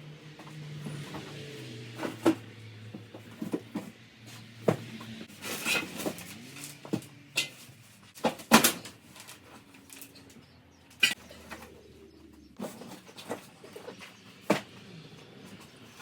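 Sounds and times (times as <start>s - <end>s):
heavy parts knocking and clunking: 0.2s - 16.0s.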